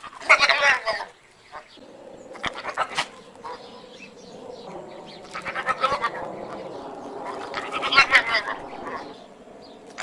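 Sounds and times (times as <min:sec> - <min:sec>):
animal calling: 0:00.0 - 0:10.0.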